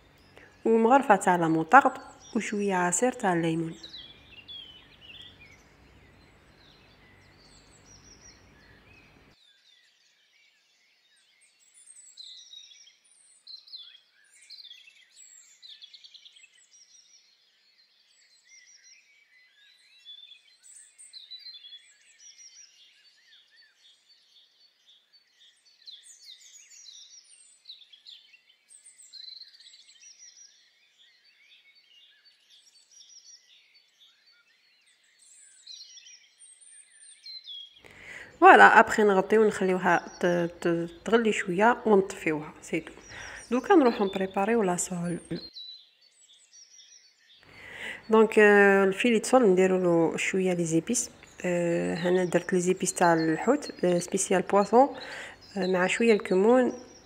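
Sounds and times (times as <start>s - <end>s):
birds chirping and twittering: 0.0s - 57.0s.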